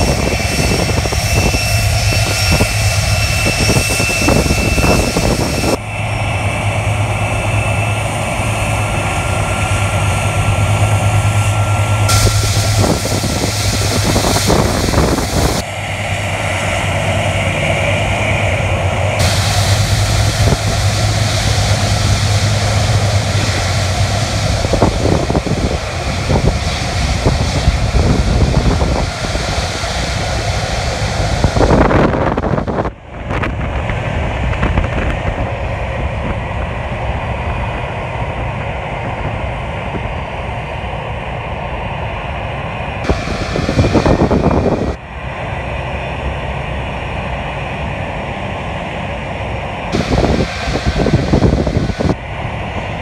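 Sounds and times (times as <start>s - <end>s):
jet engines whining and rumbling: 0.0s - 53.0s
wind gusts on microphone: 0.0s - 53.0s.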